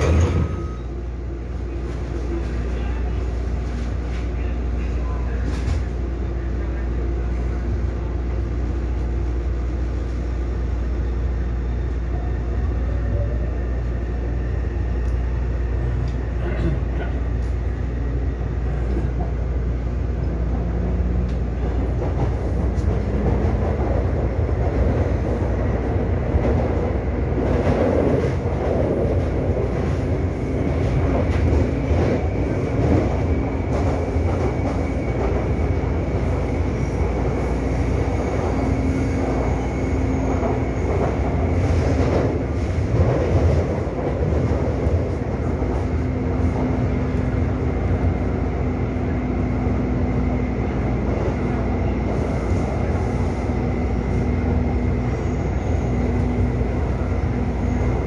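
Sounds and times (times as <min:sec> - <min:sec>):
train wheel and rail noise: 0:00.0 - 0:58.0.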